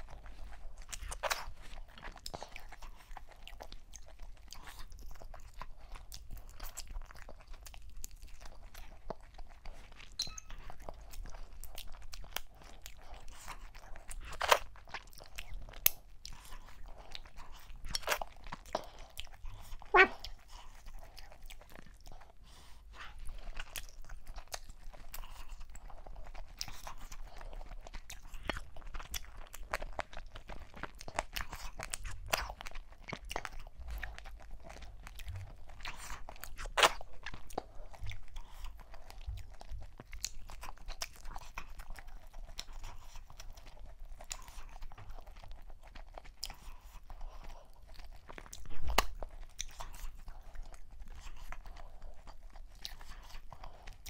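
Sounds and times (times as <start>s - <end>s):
chewing with wet mouth clicks: 0.0s - 54.0s.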